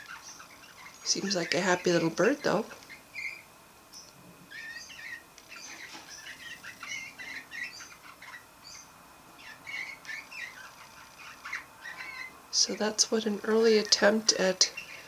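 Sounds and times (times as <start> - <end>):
canary warbling: 0.0 - 15.0.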